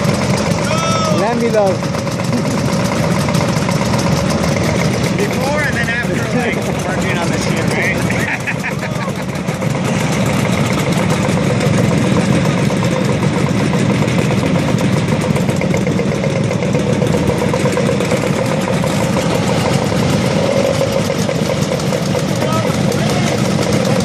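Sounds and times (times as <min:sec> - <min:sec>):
scooter engines idling: 0:00.0 - 0:24.0.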